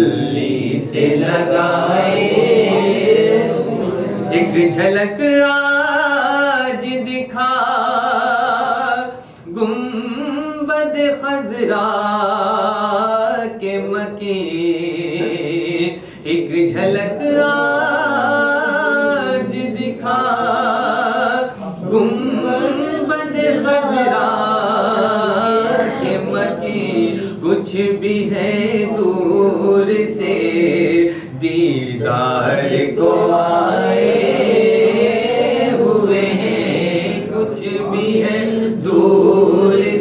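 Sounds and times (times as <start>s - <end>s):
man singing unaccompanied: 4.2s - 40.0s.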